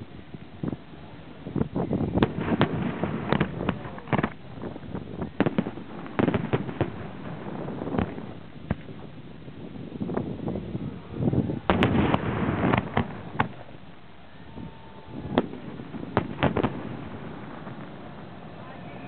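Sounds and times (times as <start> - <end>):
fireworks bangs: 0.0 - 19.0
fireworks crackling: 0.0 - 19.0.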